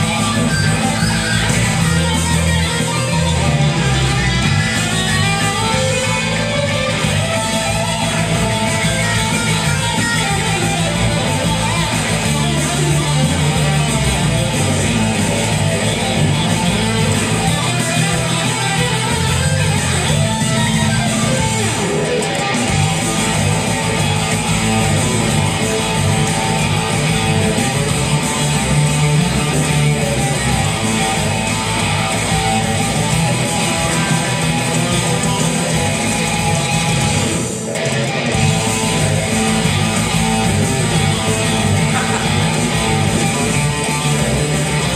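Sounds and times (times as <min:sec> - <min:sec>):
surf rock electric guitar: 0:00.0 - 0:44.9.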